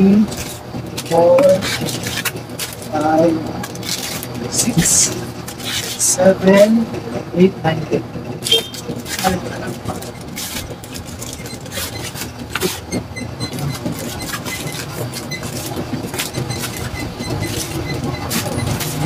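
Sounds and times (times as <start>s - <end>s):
foil pouches crinkling: 0.3s - 6.0s, 8.7s - 19.0s.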